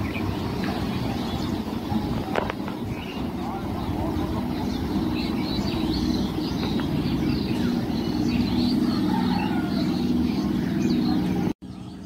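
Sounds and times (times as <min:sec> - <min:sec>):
birds chirping: 0:00.0 - 0:12.0
electric train hum and rumble: 0:00.0 - 0:12.0.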